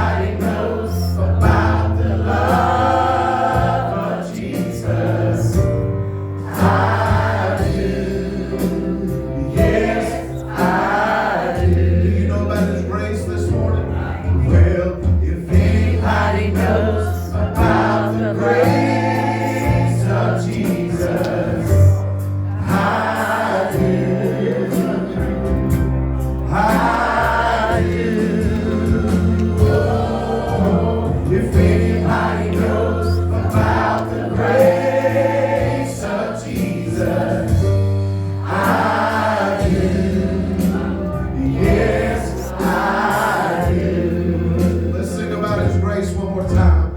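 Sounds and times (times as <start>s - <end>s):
group singing a gospel hymn: 0.0s - 46.9s
instrumental accompaniment: 0.0s - 46.9s.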